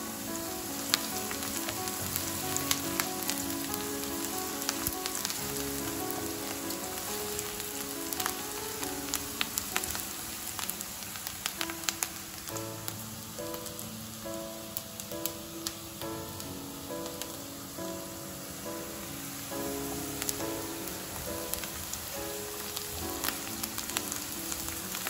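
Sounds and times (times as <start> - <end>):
onions sizzling in a frying pan: 0.0 - 25.0
quiet background music: 0.0 - 25.0.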